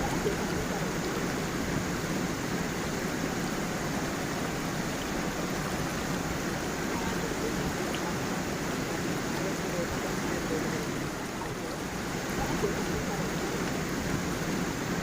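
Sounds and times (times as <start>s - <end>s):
stream flowing over small waterfall: 0.0s - 15.0s.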